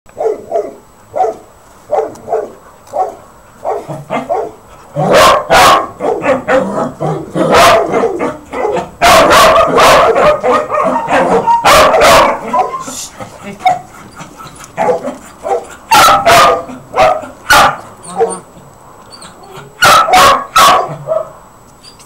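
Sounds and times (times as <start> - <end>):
puppies barking and yipping: 1.2 - 22.0.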